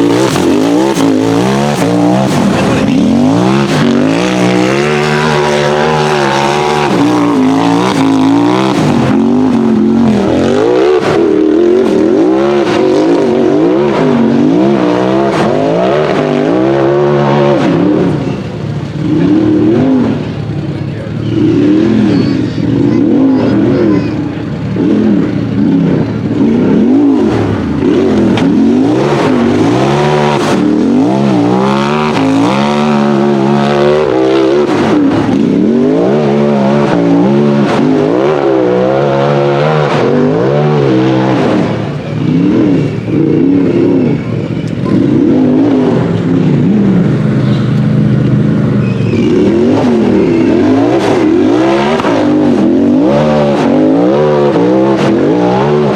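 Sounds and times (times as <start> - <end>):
buggy engine revving hard: 0.0 - 55.9.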